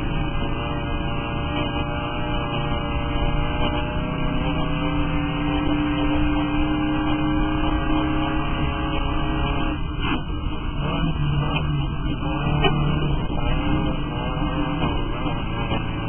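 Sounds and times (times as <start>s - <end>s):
race vehicle engine droning: 0.0s - 16.0s.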